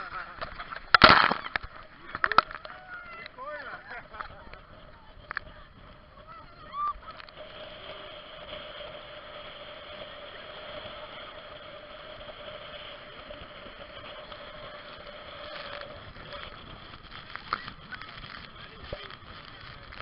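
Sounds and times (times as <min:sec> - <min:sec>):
hiss of water and wind: 0:00.0 - 0:20.0
motorboat engine running: 0:00.0 - 0:20.0.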